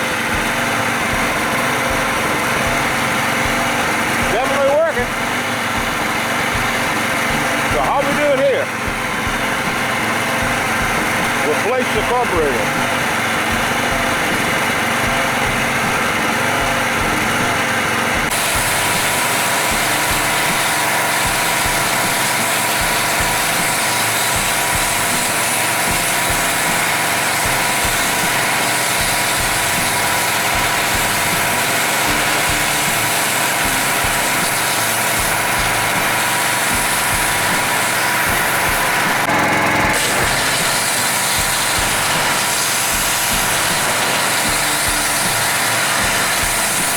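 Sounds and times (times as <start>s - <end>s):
small gasoline engine running: 0.0s - 46.9s.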